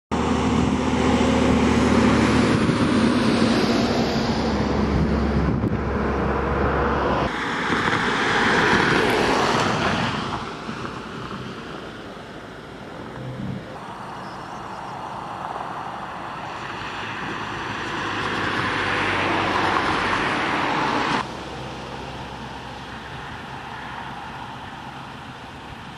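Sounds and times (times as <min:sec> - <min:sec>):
vehicle passing close by: 0:00.1 - 0:25.9.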